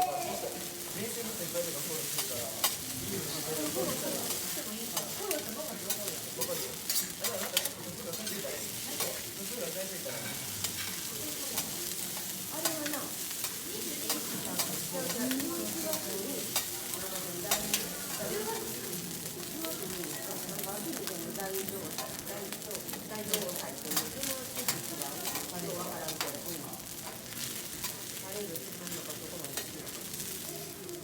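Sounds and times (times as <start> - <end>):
food sizzling on griddle: 0.0 - 31.0.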